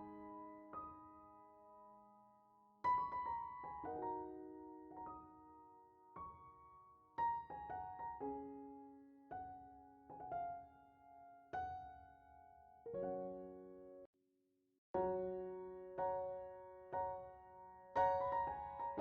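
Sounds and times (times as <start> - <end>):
slow piano music: 0.0 - 14.1, 15.0 - 19.0.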